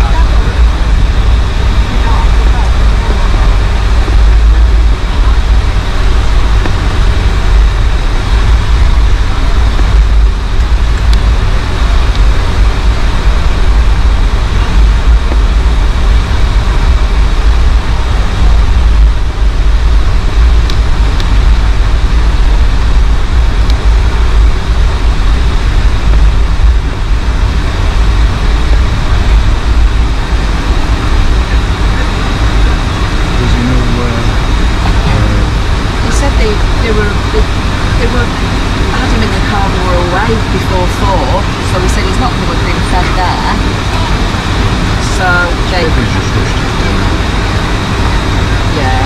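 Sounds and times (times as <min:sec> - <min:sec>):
aircraft cabin rumble while taxiing: 0:00.0 - 0:49.0.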